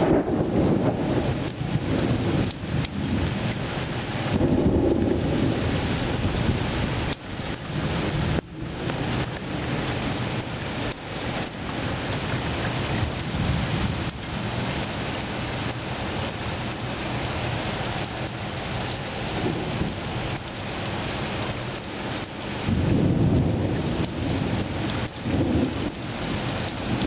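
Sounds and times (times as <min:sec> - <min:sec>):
thunder rumbling: 0:00.0 - 0:16.4, 0:17.4 - 0:21.8, 0:22.5 - 0:27.0
heavy rain pouring: 0:00.0 - 0:27.0.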